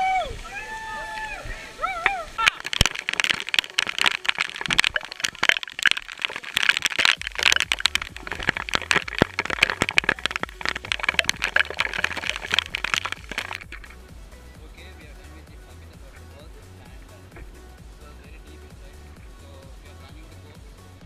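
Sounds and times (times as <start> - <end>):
waterfall splashing: 0.0 - 20.8
background music bass line: 2.2 - 21.0.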